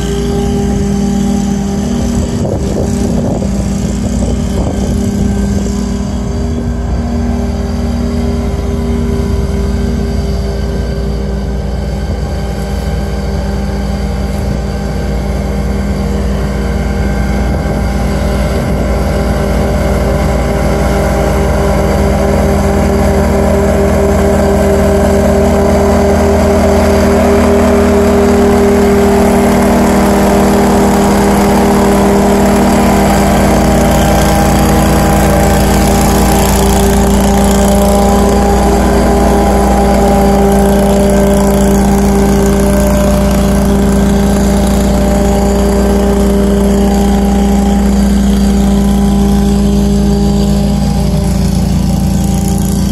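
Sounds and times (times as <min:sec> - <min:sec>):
riding mower engine running: 0:00.0 - 0:52.9.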